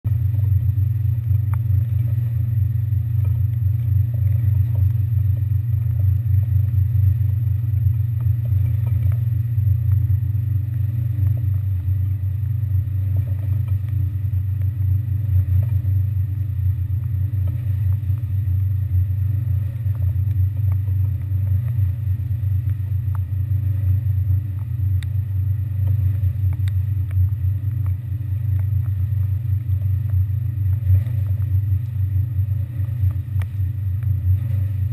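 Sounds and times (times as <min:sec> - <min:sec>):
faint ticks: 0:00.1 - 0:34.9
ship engines droning: 0:00.1 - 0:34.9.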